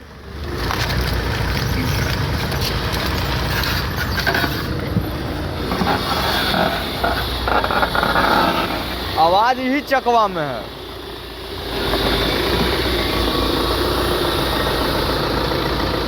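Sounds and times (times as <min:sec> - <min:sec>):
rumbling mechanical wheel noise: 0:00.0 - 0:16.0.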